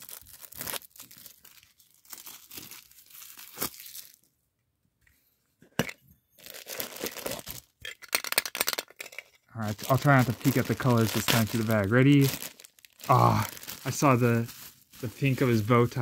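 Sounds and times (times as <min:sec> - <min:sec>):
plastic shrink wrap crinkling: 0:00.0 - 0:04.3, 0:06.4 - 0:08.8, 0:09.6 - 0:16.0.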